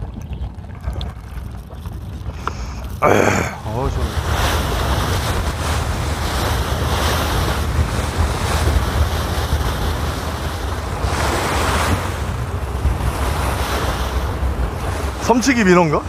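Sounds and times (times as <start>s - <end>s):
water washing against boat: 0.0s - 16.0s
wind buffeting microphone: 0.0s - 16.0s.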